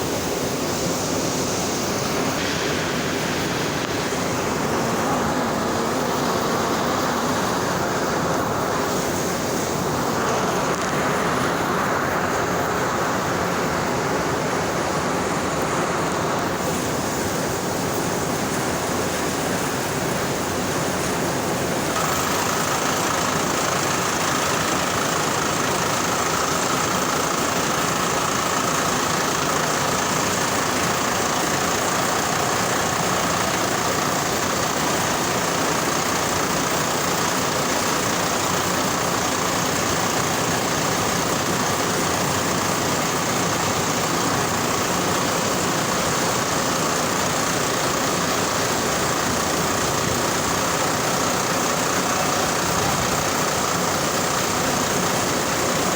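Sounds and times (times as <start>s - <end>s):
high steady whine: 0.0s - 55.9s
loud machinery noise: 0.0s - 55.9s.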